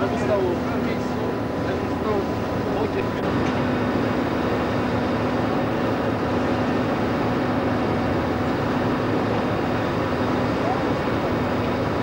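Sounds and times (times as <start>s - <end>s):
sea noise: 0.0s - 12.0s
ship machinery drone: 0.0s - 12.0s
wind: 0.0s - 12.0s.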